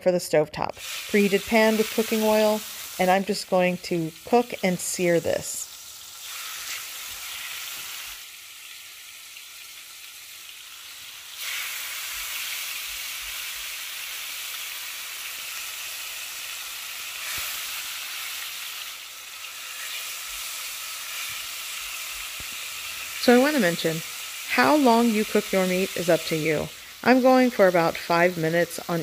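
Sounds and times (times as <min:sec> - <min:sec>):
meat sizzling in a frying pan: 0:00.7 - 0:29.0.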